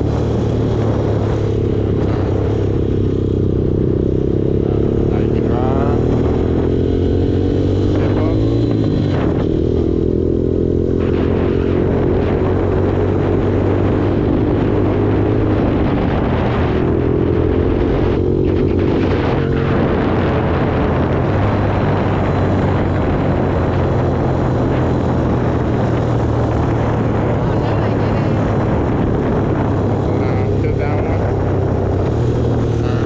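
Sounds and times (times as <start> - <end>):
rumbling rush of noise: 0.0 - 33.0
vehicle engine running: 0.0 - 33.0.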